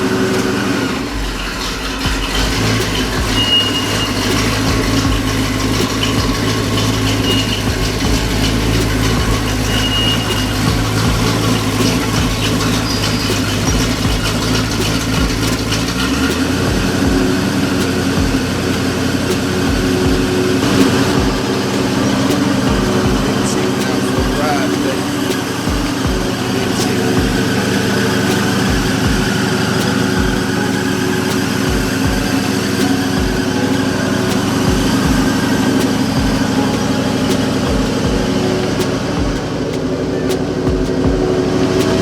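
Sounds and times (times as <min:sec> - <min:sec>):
vehicle engine idling: 0:00.0 - 0:42.0.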